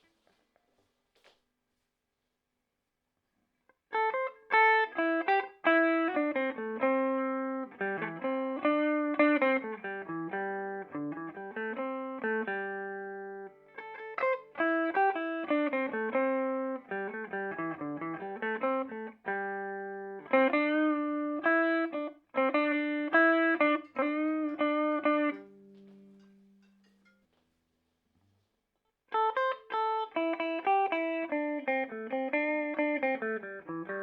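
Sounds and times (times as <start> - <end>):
clean electric guitar picking: 3.9 - 27.4, 29.1 - 34.0.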